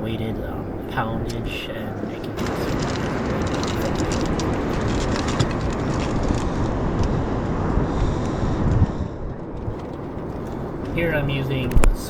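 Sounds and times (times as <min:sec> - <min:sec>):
wind: 0:00.0 - 0:12.0
wind buffeting the microphone: 0:00.0 - 0:12.0.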